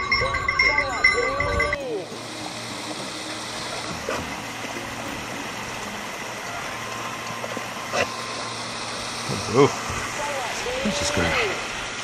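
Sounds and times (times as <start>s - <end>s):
stream splashing over rocks: 0.0s - 12.0s.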